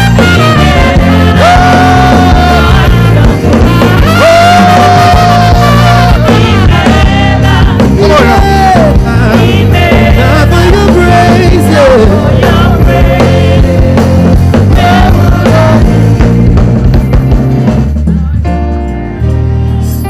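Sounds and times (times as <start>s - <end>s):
drums: 0.0s - 20.0s
gospel band playing: 0.0s - 20.0s.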